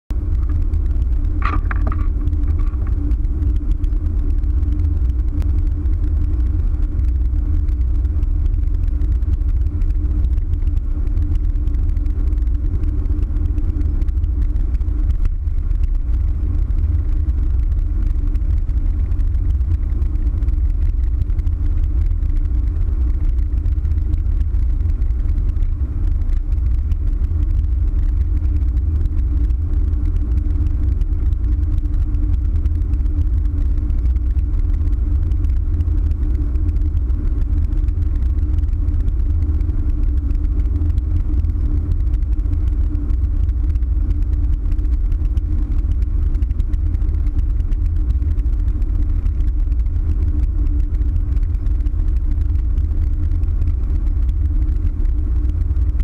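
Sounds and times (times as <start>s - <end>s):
vehicle driving at highway speed: 0.1s - 56.0s.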